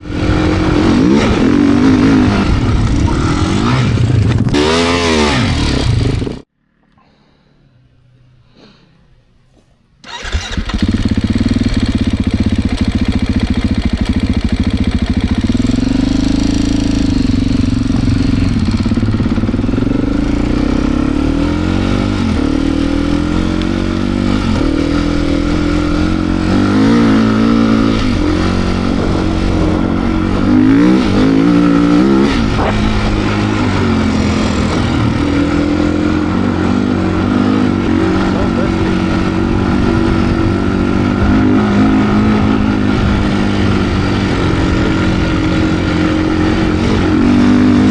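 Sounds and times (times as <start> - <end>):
motorcycle engine revving: 0.0 - 7.0, 10.0 - 47.9.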